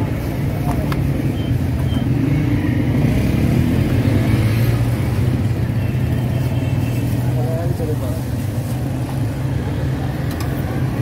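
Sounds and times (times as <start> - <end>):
street traffic engines rumbling: 0.0 - 11.0.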